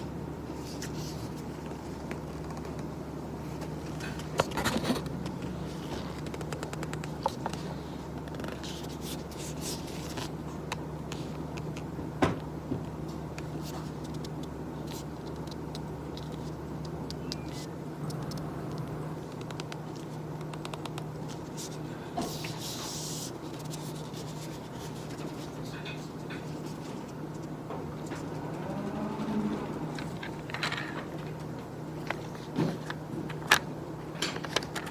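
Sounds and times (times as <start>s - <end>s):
low room hum: 0.0s - 34.9s.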